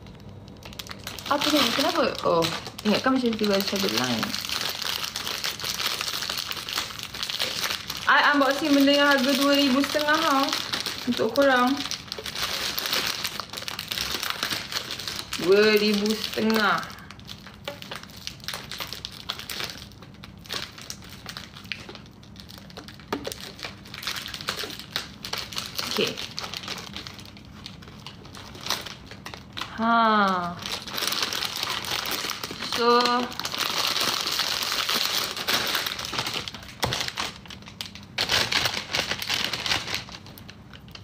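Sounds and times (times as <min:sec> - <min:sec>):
packaging crinkling and rustling: 0:00.0 - 0:41.0.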